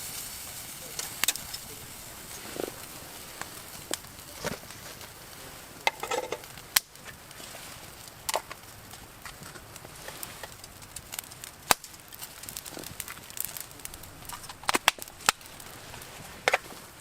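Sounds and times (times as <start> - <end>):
coffee beans popping and crackling: 0.0 - 17.0
soft steady hiss: 0.0 - 17.0.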